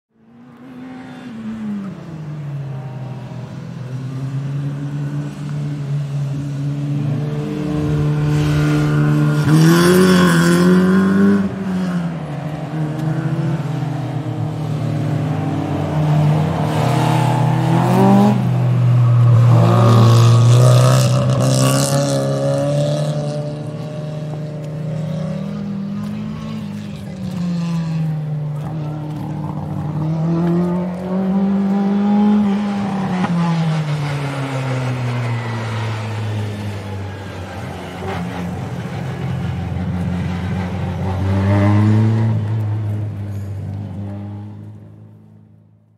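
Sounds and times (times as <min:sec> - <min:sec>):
racing car engines: 0:00.1 - 0:45.9.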